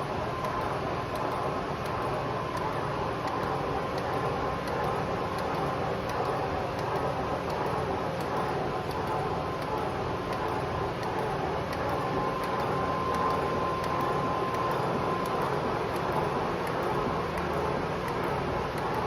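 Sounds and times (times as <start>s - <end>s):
power press mechanical hum: 0.0s - 19.0s
thin steady whine: 0.0s - 19.0s.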